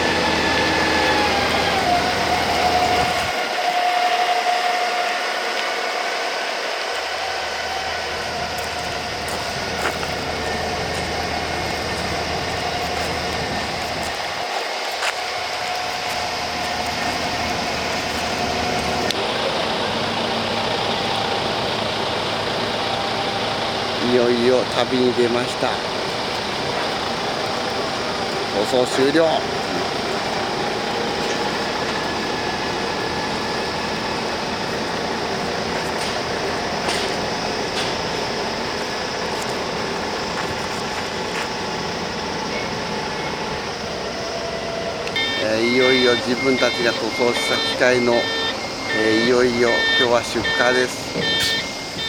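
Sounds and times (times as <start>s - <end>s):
heavy vehicle running: 0.0s - 52.0s.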